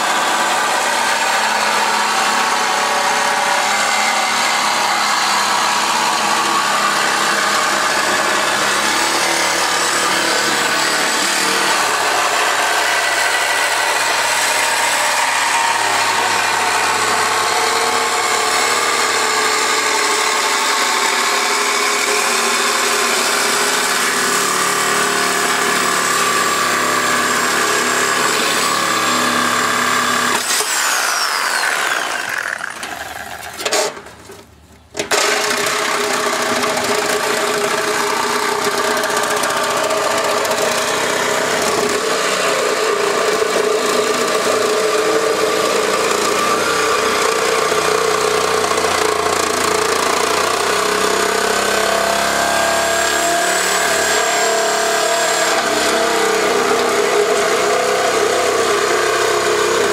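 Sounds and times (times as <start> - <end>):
electric power tool running: 0.0 - 33.9, 35.0 - 59.9.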